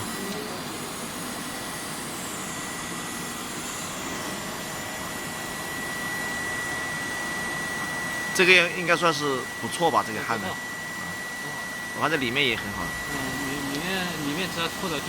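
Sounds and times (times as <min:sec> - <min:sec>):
welding machine hiss and whine: 0:00.0 - 0:15.0.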